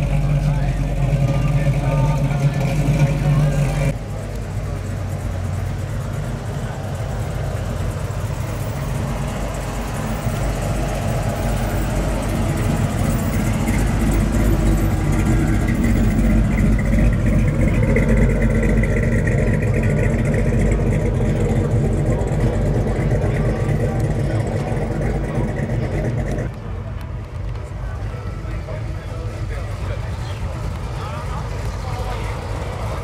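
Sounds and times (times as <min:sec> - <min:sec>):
car engine rumbling: 0:00.0 - 0:33.0.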